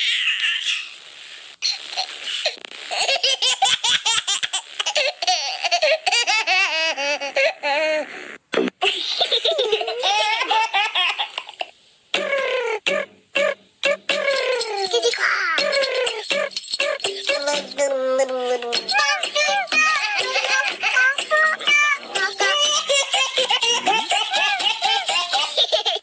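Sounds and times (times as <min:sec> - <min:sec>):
baby laughing: 0:01.6 - 0:08.0, 0:08.8 - 0:12.8, 0:13.4 - 0:26.0.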